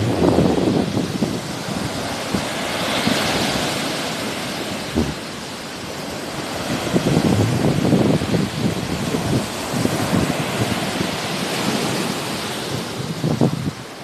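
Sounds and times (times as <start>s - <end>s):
sea waves washing onto shore: 0.0s - 14.0s
wind buffeting microphone: 0.0s - 14.0s.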